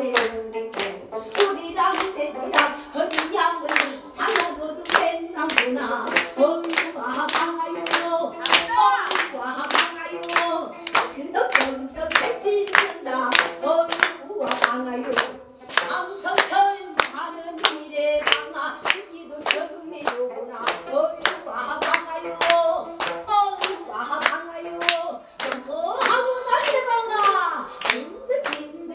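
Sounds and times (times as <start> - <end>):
person singing: 0.0 - 28.9
hand-clapping: 0.1 - 28.8.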